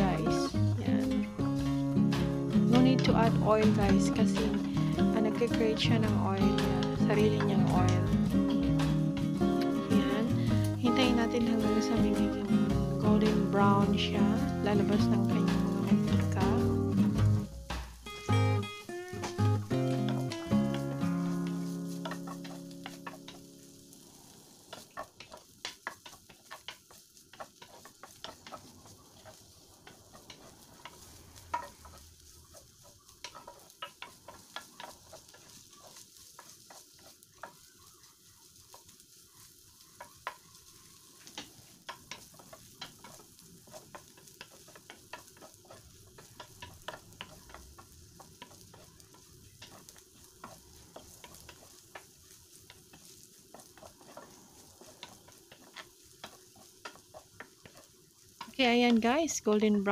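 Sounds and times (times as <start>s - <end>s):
wooden spatula scraping a pan: 0.0s - 24.0s, 24.7s - 59.9s
meat sizzling in a pan: 0.0s - 59.9s.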